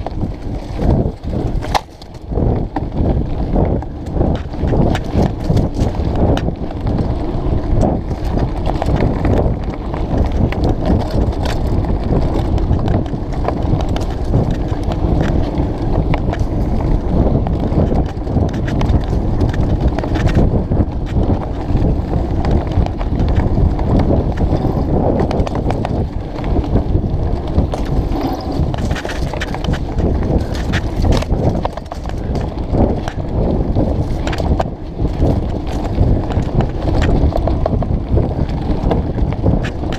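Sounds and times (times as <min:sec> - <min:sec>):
mountain bike rattling: 0:00.0 - 0:39.9.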